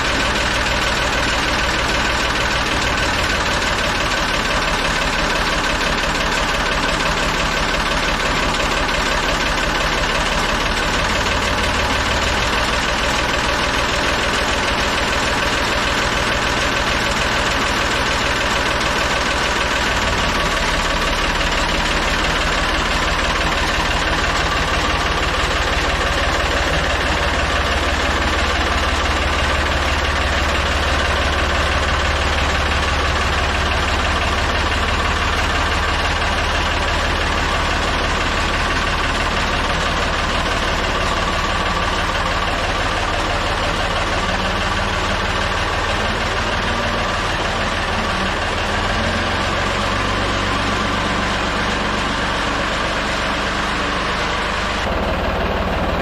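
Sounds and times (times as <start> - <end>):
backhoe engine idling: 0.0 - 56.0.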